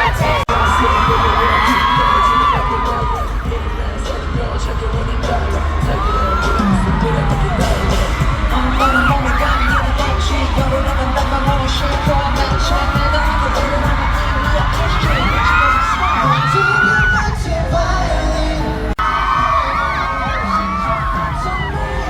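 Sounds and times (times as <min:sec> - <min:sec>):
crowd screaming: 0:00.0 - 0:22.0
person singing: 0:00.0 - 0:22.0
pop song through loudspeakers: 0:00.0 - 0:22.0
pulsing bass beat: 0:00.0 - 0:22.0.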